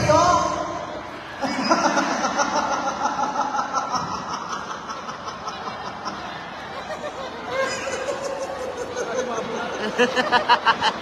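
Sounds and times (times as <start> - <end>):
crowd chatter: 0.0 - 11.0
audience laughing: 1.4 - 11.0.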